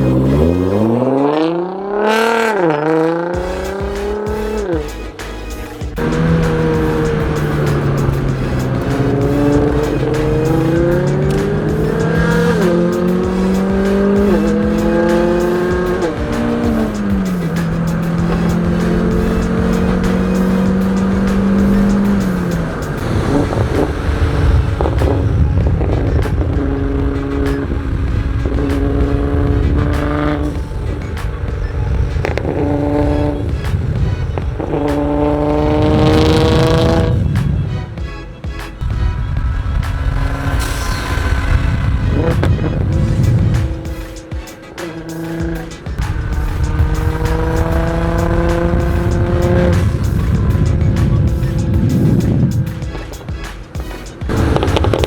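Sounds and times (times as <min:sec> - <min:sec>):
car engine accelerating hard: 0:00.0 - 0:55.0
exhaust crackling and banging: 0:02.5 - 0:55.0.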